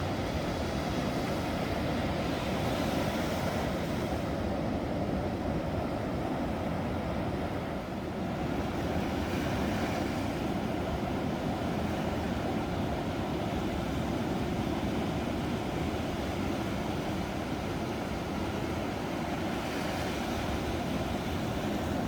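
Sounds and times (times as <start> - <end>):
ocean surf roar: 0.0 - 22.0.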